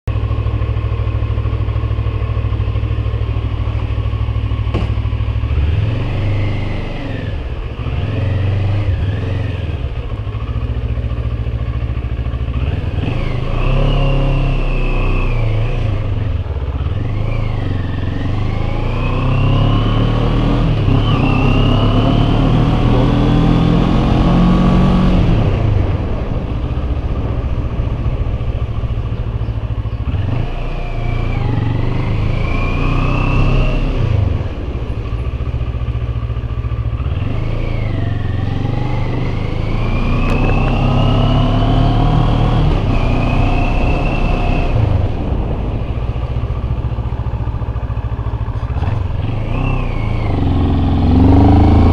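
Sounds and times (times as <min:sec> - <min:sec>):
motorcycle engine accelerating: 0:00.1 - 0:51.9.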